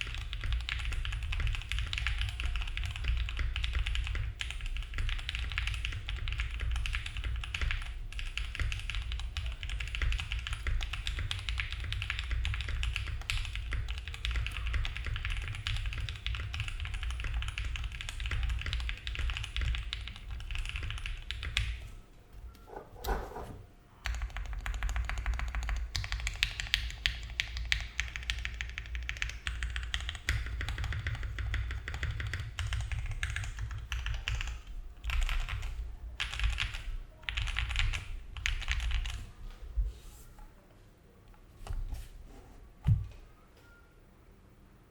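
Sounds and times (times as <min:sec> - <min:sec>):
fast mechanical keyboard typing: 0:00.0 - 0:21.9, 0:24.0 - 0:39.2.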